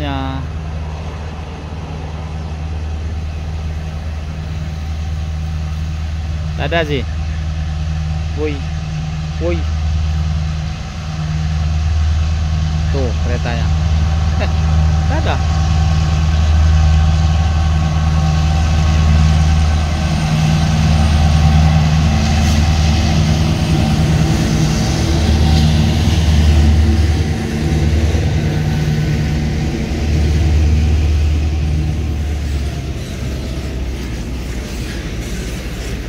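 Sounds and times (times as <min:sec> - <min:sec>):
locomotive engine drone: 0:00.0 - 0:36.0
train wagons rolling on rails: 0:00.0 - 0:36.0.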